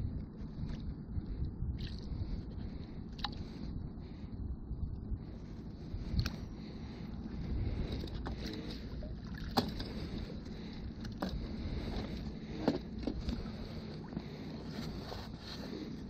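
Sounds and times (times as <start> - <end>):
water and wind rumble: 0.0 - 16.0.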